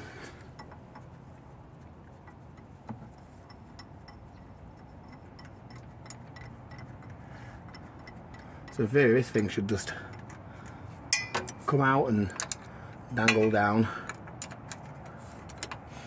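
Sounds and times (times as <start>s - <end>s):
spanner clicking on bolt: 2.2s - 11.7s, 12.4s - 15.9s.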